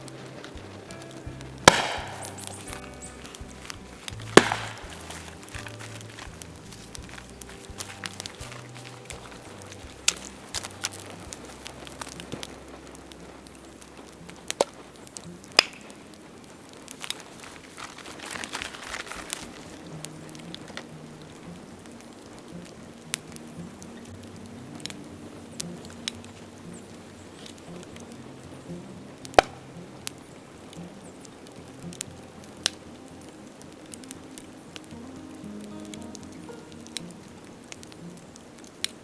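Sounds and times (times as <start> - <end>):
bamboo cracking in a fire: 0.0 - 39.0
faint background music: 0.0 - 39.0.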